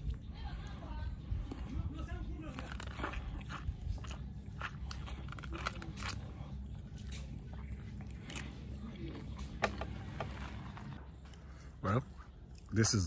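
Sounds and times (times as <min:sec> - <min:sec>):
man chewing juicy fruit: 0:00.0 - 0:12.7.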